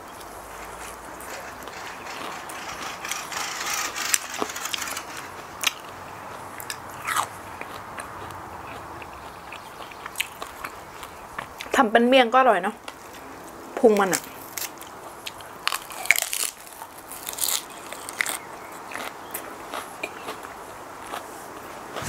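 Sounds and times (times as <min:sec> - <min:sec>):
crunching and chewing food: 0:00.1 - 0:11.8, 0:14.0 - 0:22.0.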